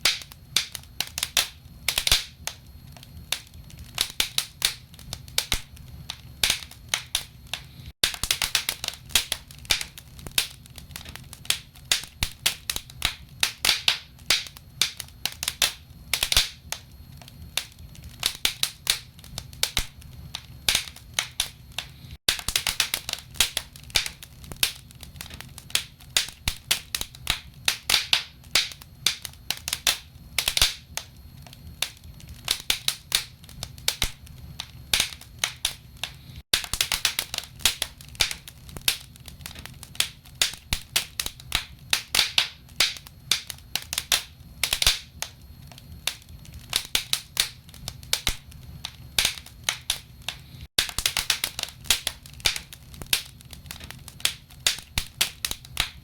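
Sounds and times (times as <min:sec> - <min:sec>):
logs crackling in a fireplace: 0:00.0 - 0:56.0
sharp pops and snaps: 0:00.0 - 0:56.0.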